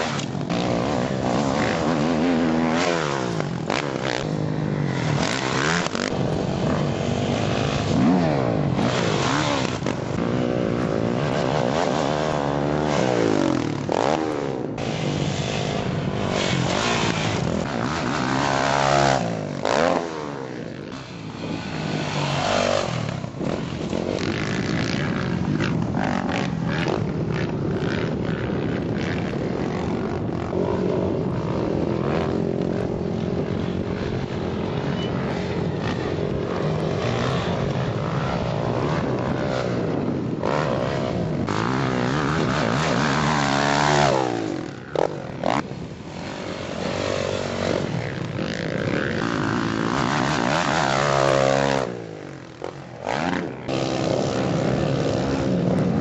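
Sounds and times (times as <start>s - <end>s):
dirt bike engine revving: 0.0s - 56.0s
second dirt bike: 0.0s - 56.0s.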